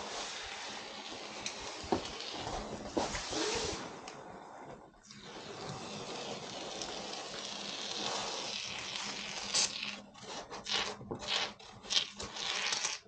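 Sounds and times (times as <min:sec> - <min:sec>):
scratching on styrofoam: 0:00.0 - 0:04.0, 0:05.3 - 0:13.0.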